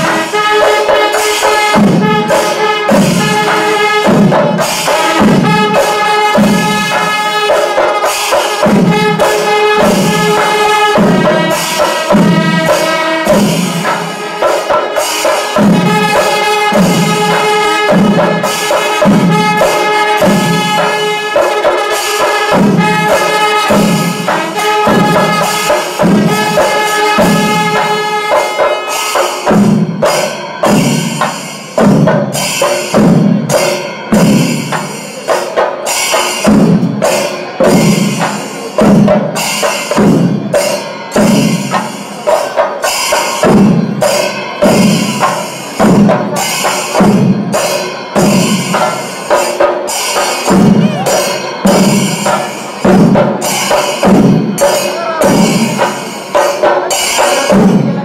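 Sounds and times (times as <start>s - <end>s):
hand cymbals clashing: 0.0s - 58.0s
massed drums: 0.0s - 58.0s.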